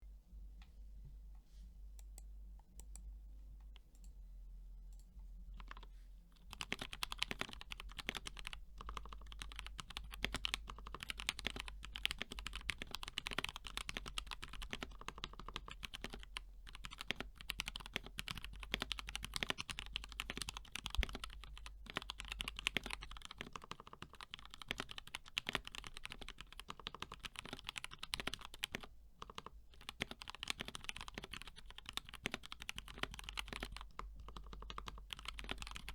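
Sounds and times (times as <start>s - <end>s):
typing on a mechanical keyboard: 5.6s - 35.9s.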